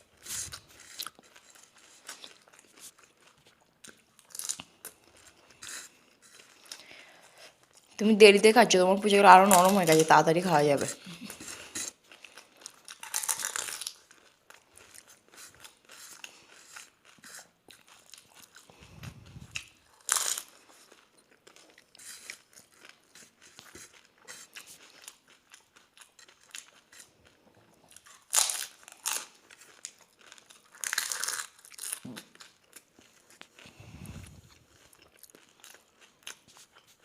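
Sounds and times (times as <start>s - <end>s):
chewing and wet mouth sounds: 0.0s - 8.0s, 10.8s - 37.0s.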